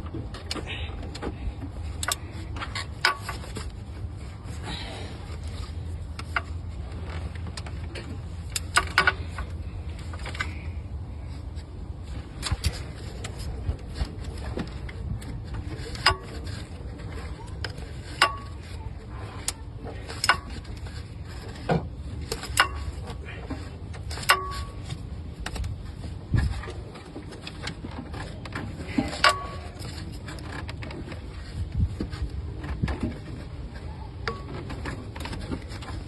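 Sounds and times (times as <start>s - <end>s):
low steady rumble: 0.0s - 36.0s.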